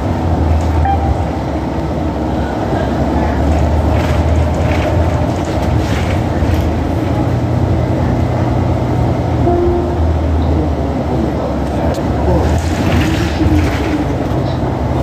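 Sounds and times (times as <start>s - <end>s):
bus drivetrain and road drone: 0.0s - 15.0s.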